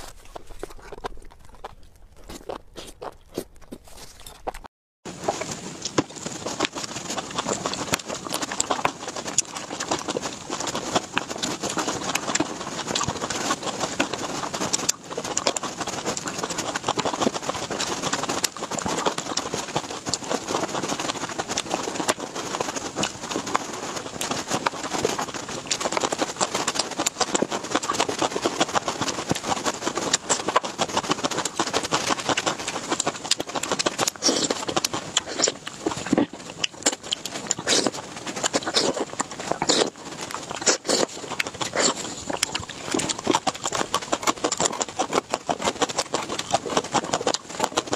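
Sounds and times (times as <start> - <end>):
wet bites and chewing: 0.0 - 47.9.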